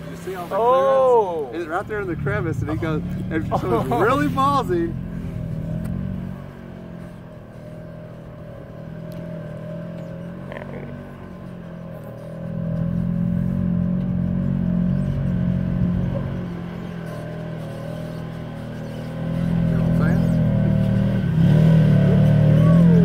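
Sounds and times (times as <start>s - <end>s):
utility vehicle engine under load: 0.0s - 23.0s.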